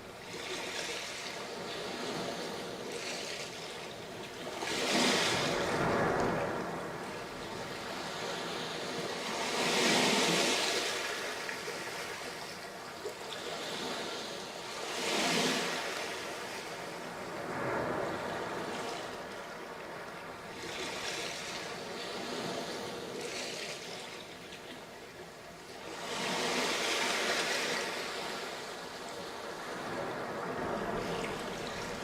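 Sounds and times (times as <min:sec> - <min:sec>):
sea waves breaking on beach: 0:00.0 - 0:32.0.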